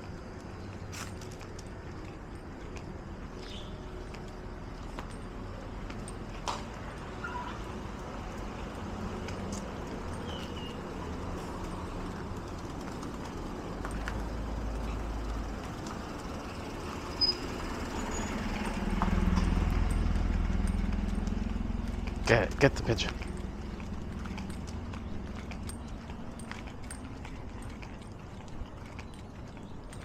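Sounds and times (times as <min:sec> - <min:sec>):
low street rumble: 0:00.0 - 0:30.0.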